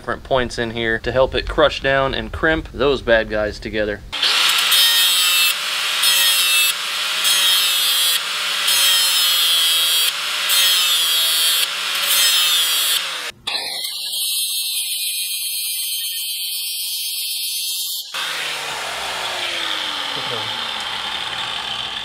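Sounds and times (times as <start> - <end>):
electric grinder grinding steel: 4.2 - 22.0.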